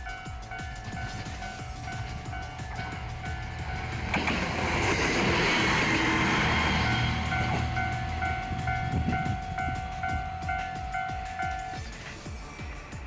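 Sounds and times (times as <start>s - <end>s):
railcar passing: 0.0s - 13.0s.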